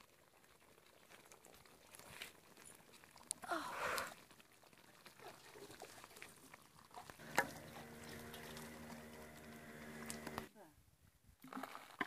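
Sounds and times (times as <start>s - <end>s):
thick gravy bubbling: 0.0s - 10.5s.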